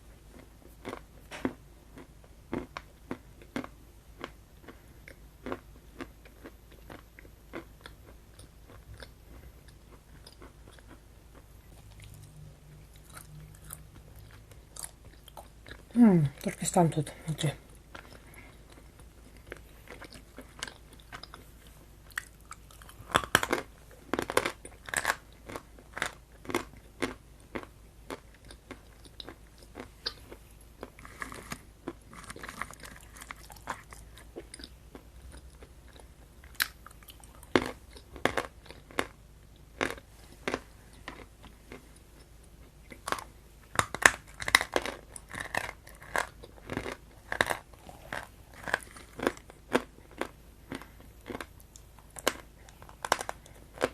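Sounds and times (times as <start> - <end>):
person chewing crunchy food: 0.2 - 16.4, 17.6 - 53.9.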